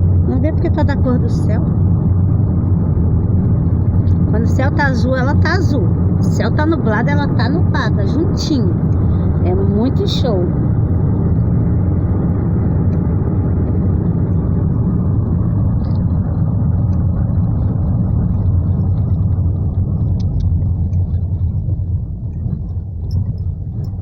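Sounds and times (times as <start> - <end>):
car engine rumble inside cabin: 0.0 - 24.0.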